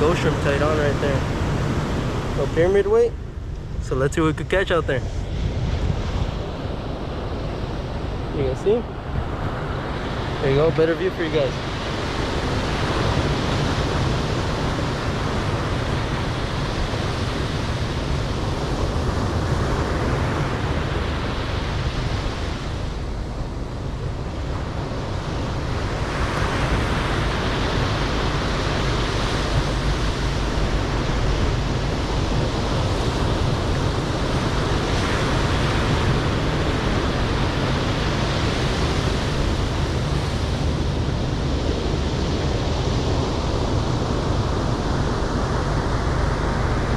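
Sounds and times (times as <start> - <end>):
ocean surf breaking on beach: 0.0 - 46.9
wind rumbling on microphone: 0.0 - 46.9.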